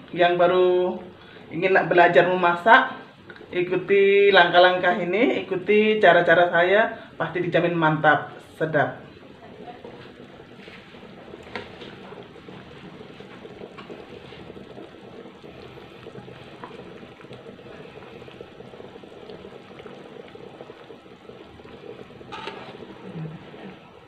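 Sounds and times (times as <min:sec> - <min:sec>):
gravy bubbling at a simmer: 0:00.0 - 0:24.0.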